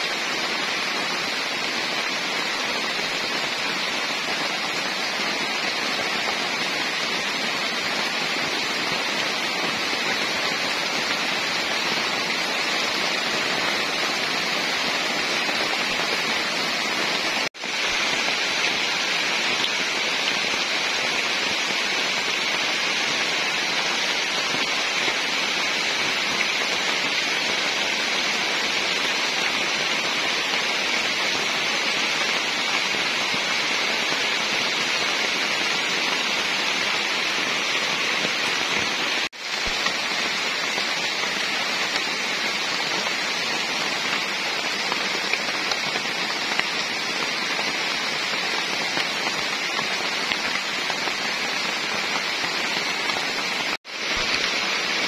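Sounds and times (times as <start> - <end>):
heavy rain on foliage: 0.0 - 55.0.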